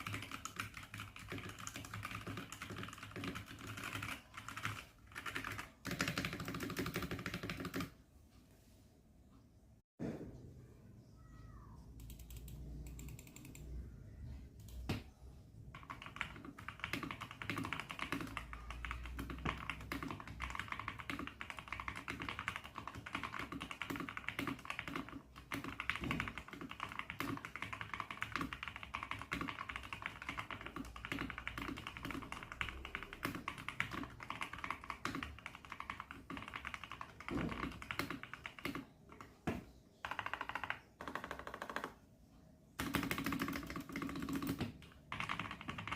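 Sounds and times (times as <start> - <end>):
mechanical keyboard typing: 0.0 - 8.0, 12.0 - 13.8, 15.7 - 42.0, 42.8 - 45.9.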